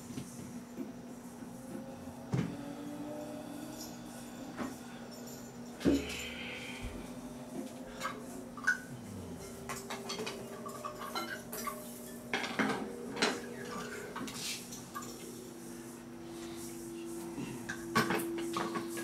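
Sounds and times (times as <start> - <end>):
low hum: 1.0 - 19.0.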